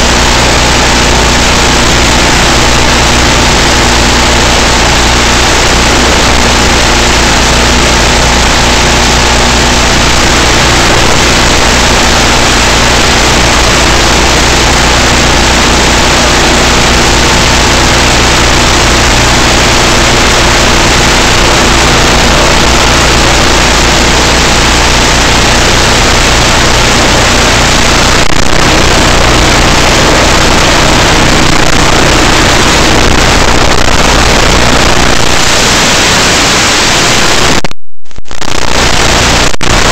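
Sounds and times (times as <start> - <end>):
electric motor hum: 0.0 - 37.3
heavy radio hiss: 0.0 - 39.9.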